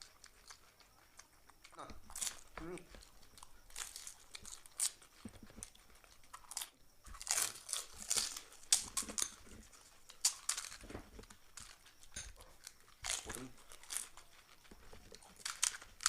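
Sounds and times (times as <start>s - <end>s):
crunching crisp shells: 0.0s - 16.0s.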